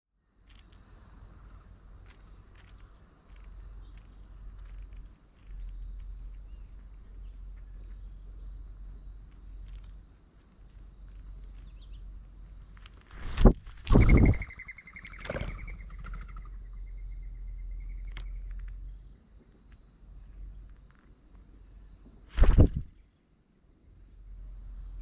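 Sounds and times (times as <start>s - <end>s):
crickets chirping: 0.1s - 25.0s.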